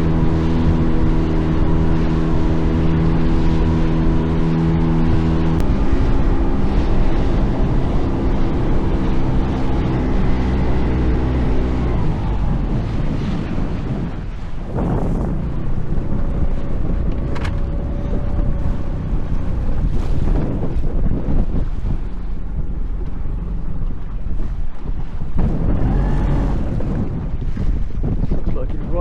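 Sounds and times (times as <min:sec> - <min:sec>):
boat engine running: 0:00.0 - 0:29.0
water noise: 0:00.0 - 0:29.0
wind: 0:00.0 - 0:29.0.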